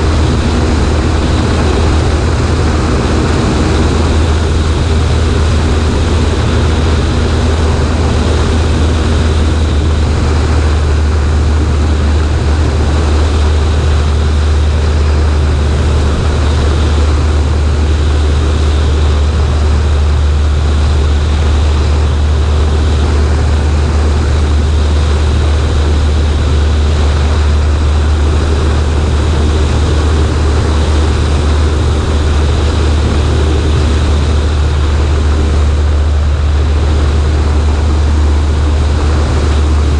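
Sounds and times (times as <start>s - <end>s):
air rushing over microphone: 0.0s - 39.9s
airplane engine and propeller drone: 0.0s - 39.9s.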